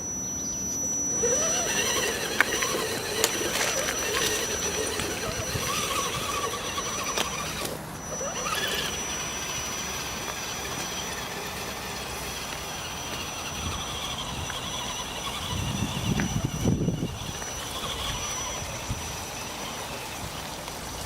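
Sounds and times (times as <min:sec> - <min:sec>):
thin high whine: 0:00.0 - 0:20.4
electric motor whining: 0:00.0 - 0:21.0.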